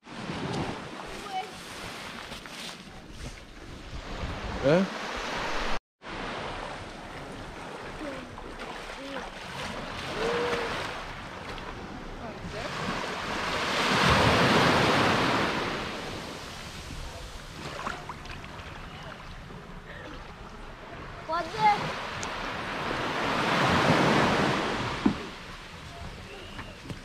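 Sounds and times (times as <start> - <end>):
sea waves washing onto beach: 4.2 - 27.0.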